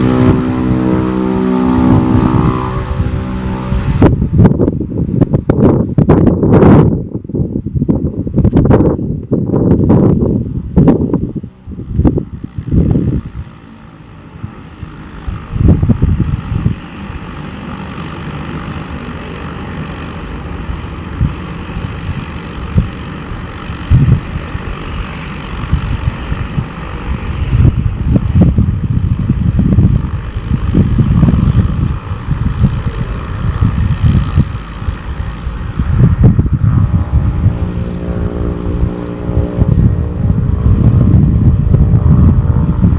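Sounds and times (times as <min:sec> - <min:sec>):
turboprop engine running: 0:00.0 - 0:42.9
wind buffeting microphone: 0:00.0 - 0:42.9.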